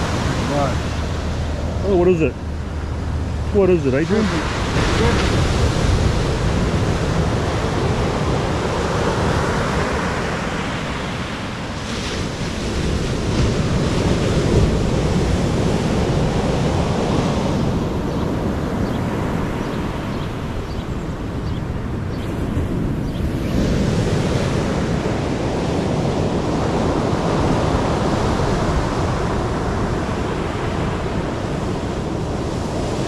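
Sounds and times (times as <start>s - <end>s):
ocean surf breaking: 0.0s - 33.0s
wind on microphone: 0.0s - 33.0s.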